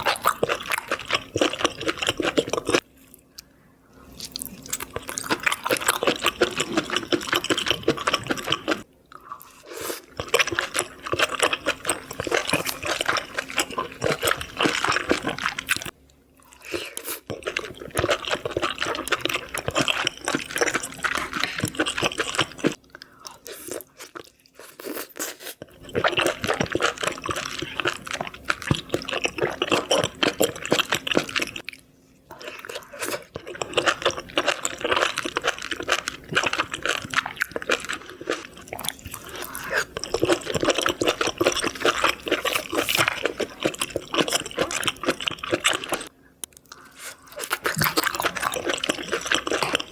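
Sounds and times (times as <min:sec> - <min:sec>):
wet chewing and crunching: 0:00.0 - 0:49.9.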